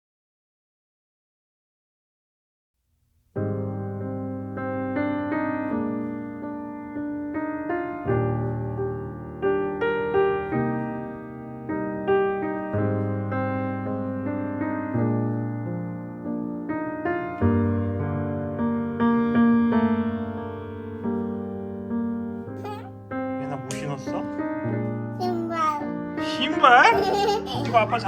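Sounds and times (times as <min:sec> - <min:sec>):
piano music: 0:03.4 - 0:28.0.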